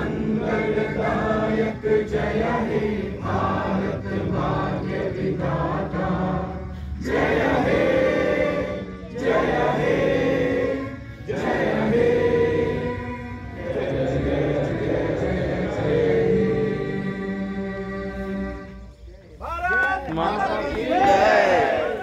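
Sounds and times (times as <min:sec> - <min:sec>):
crowd singing in unison: 0:00.0 - 0:18.8, 0:20.1 - 0:22.0.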